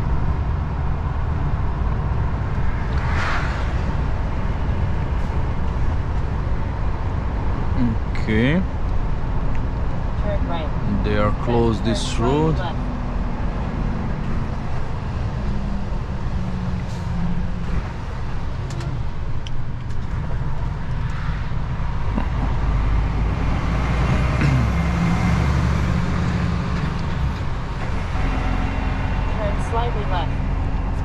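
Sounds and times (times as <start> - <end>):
road noise: 0.0 - 31.0
truck diesel engine drone: 0.0 - 31.0.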